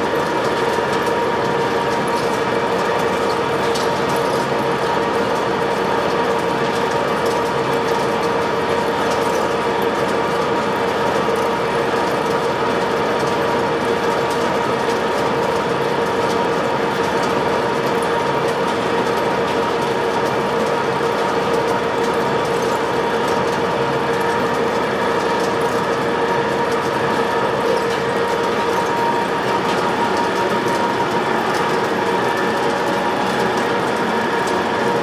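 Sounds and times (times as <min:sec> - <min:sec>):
lathe running with whine: 0:00.0 - 0:35.0.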